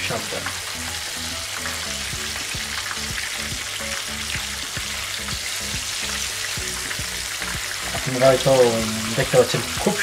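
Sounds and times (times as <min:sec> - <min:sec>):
fish deep-frying in oil: 0:00.0 - 0:10.0
oil popping and crackling: 0:00.0 - 0:10.0.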